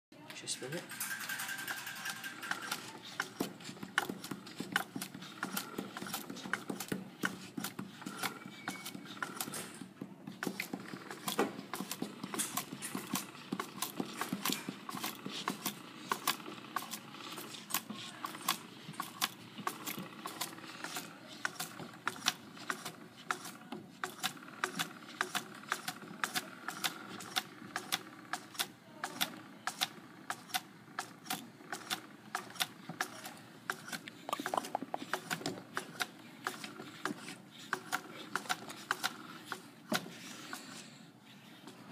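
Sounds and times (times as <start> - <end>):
wooden mechanism clicking and rattling: 0.9 - 9.6, 10.4 - 40.1.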